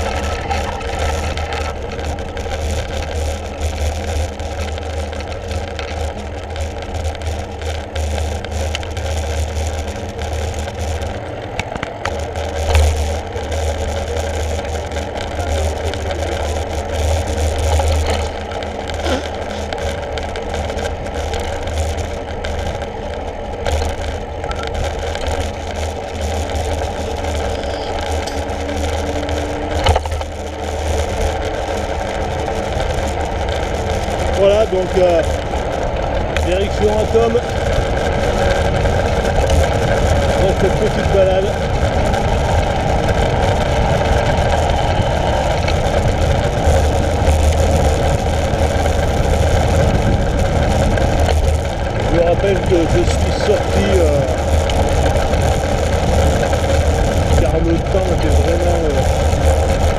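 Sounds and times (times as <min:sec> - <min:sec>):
bicycle bump: 0:00.0 - 0:59.9
tyres humming on asphalt: 0:00.0 - 0:59.9
wind buffeting microphone: 0:00.0 - 0:59.9.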